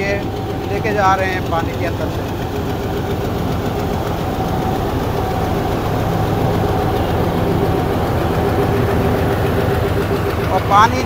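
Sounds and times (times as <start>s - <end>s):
diesel locomotive engine running: 0.0s - 11.0s.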